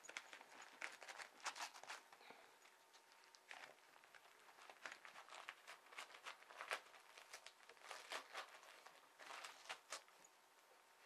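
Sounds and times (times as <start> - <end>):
wrapping paper crinkling and tearing: 0.0 - 10.2.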